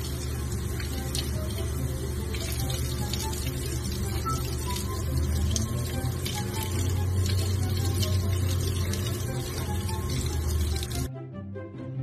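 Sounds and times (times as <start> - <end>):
tap water splashing into sink: 0.0 - 11.1
background music: 0.0 - 12.0.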